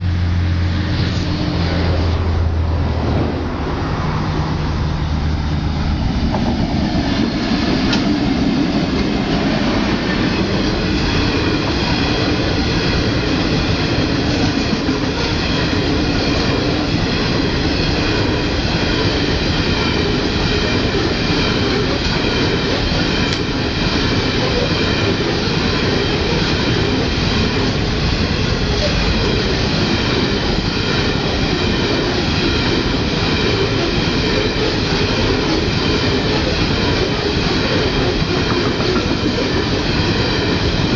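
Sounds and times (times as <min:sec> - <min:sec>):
diesel locomotive engine hum: 0:00.0 - 0:40.9
train wheels rumbling on rails: 0:00.0 - 0:40.9.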